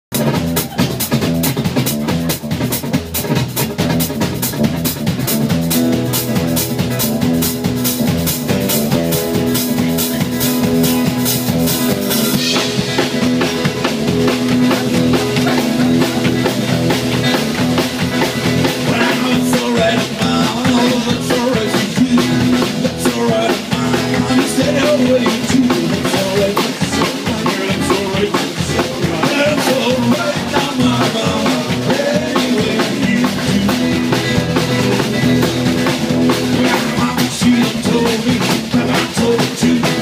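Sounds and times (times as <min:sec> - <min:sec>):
bass and electric guitar: 0:00.0 - 0:40.0
drum kit beat: 0:00.1 - 0:40.0.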